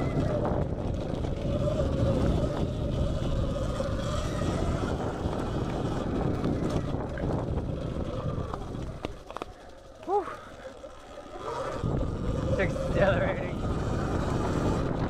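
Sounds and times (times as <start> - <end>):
electric motor whine: 0.0 - 15.0
tyres rumbling on rough ground: 0.0 - 15.0
wind buffeting: 0.0 - 15.0.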